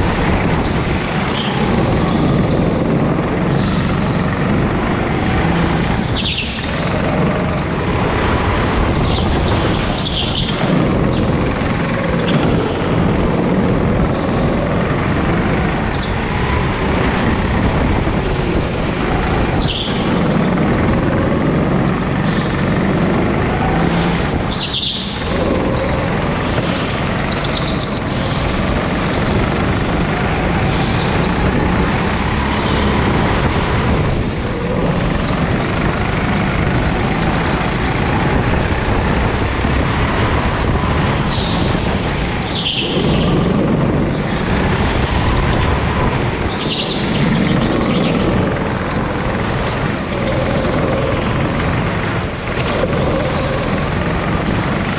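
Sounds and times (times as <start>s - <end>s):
go-kart engine: 0.0s - 54.9s.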